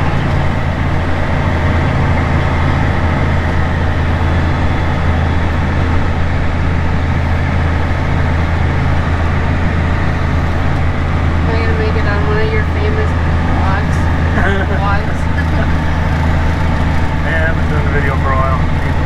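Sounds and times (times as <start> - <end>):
tractor diesel engine humming: 0.0 - 19.0.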